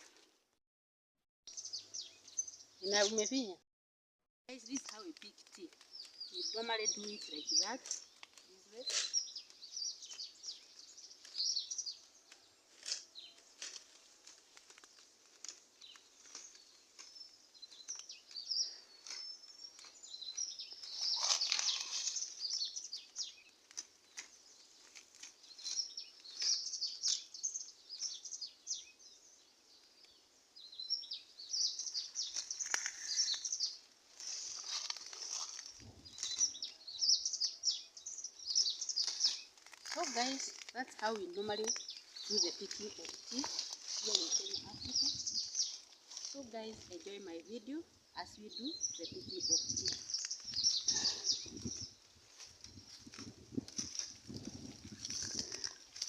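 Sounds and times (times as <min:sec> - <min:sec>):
birds chirping: 0:01.5 - 0:03.6, 0:04.5 - 0:13.6, 0:14.2 - 0:56.0
small clicks of plucking leaves: 0:04.5 - 0:28.5, 0:31.9 - 0:47.7, 0:49.5 - 0:56.0
leaves rustling: 0:04.5 - 0:56.0.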